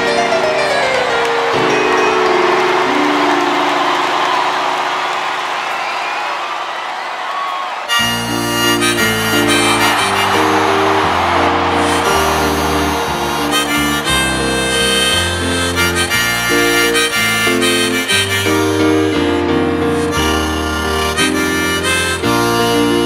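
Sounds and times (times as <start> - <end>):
harmonica melody: 0.0 - 5.8, 7.8 - 23.0
piano accompaniment: 0.0 - 5.9, 7.9 - 23.0.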